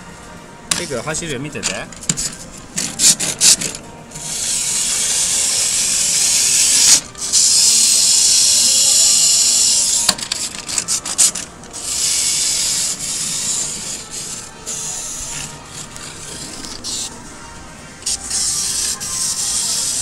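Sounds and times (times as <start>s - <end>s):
toy truck gear drive whirring: 1.6s - 20.0s.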